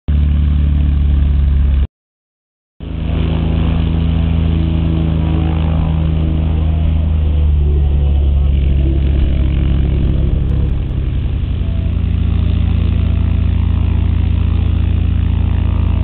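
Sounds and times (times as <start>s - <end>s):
light aircraft engine and propeller: 0.1s - 1.9s, 2.8s - 16.0s.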